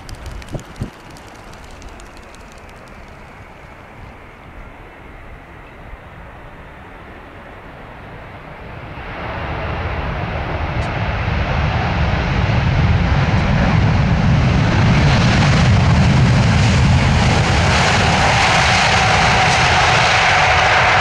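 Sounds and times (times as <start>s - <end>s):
aircraft engine approaching: 0.0s - 21.0s.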